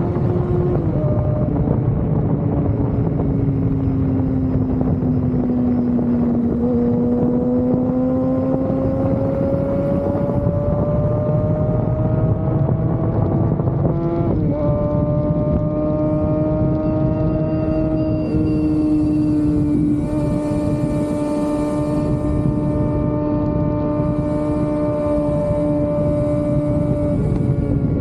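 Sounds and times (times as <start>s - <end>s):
motorcycle engine running at speed: 0.0s - 28.0s
wind noise on microphone: 0.0s - 28.0s.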